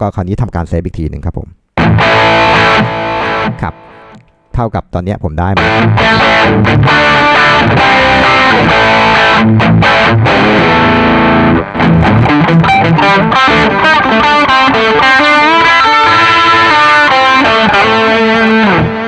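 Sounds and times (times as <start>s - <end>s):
distorted electric guitar: 1.8s - 4.3s, 5.6s - 19.0s.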